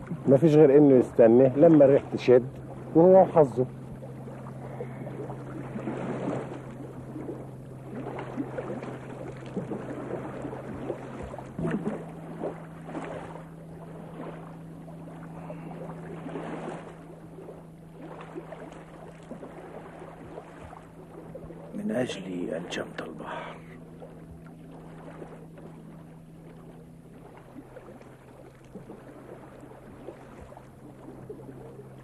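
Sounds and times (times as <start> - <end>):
steady low hum: 0.0 - 32.0
water lapping in swells: 0.0 - 32.0.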